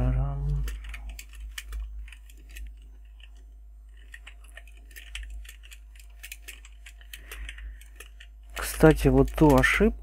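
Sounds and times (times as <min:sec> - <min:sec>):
keyboard keys clicking: 0:00.5 - 0:10.0.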